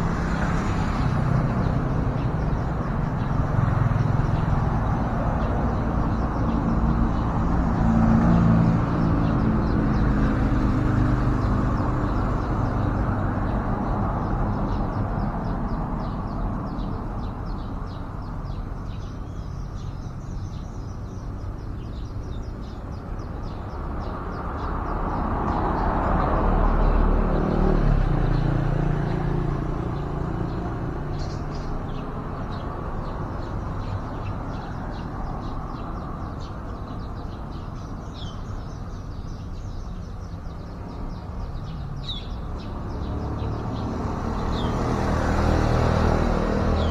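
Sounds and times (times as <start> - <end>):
road traffic passing: 0.0 - 46.9
small birds chirping: 0.0 - 46.9.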